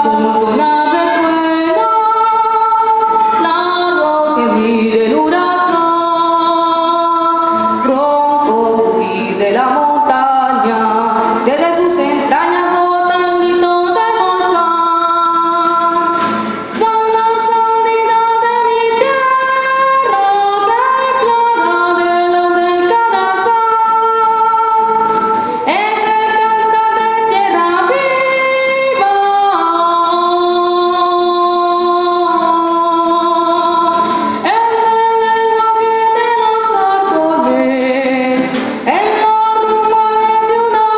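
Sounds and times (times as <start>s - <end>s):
woman singing slow melody: 0.0s - 40.9s.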